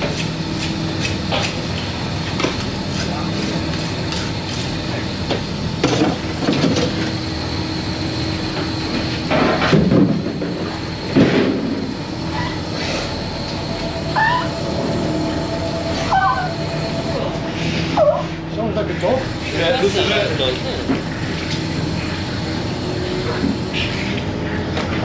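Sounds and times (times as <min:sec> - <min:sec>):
boat engine drone: 0:00.0 - 0:25.0.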